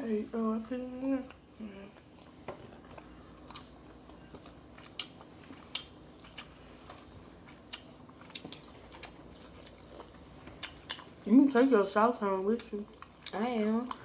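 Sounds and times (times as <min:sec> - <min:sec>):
chewing with wet smacks: 0:00.6 - 0:11.8, 0:12.6 - 0:14.0.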